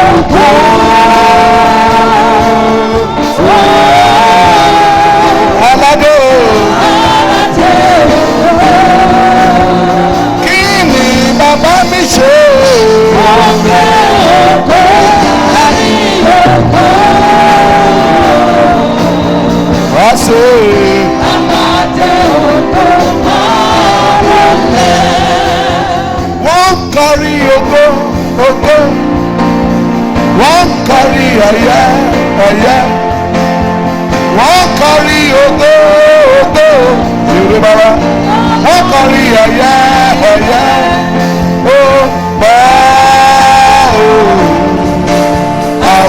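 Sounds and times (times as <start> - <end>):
church praise music with singing: 0.0 - 46.0.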